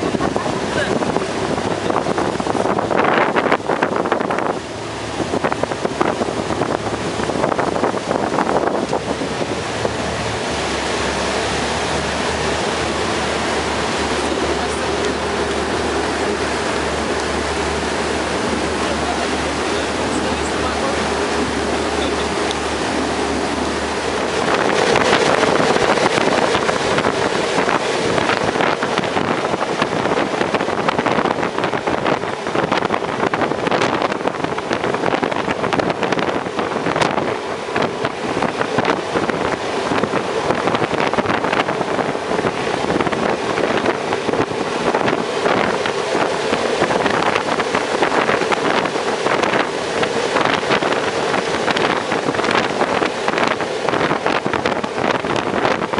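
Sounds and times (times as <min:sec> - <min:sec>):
boat engine drone: 0:00.0 - 0:55.9
water rushing against hull: 0:00.0 - 0:55.9
wind buffeting microphone: 0:00.0 - 0:55.9.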